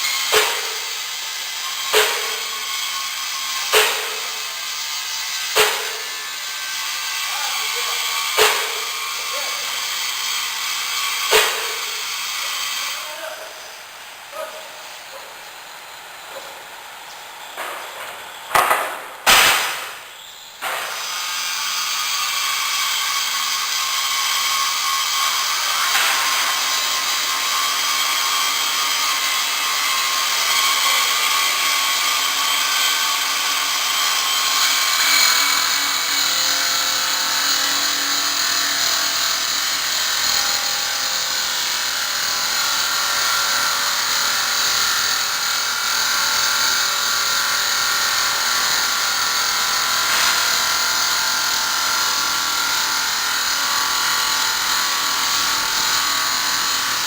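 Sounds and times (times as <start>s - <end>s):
circular saw cutting stone: 0.0s - 57.0s.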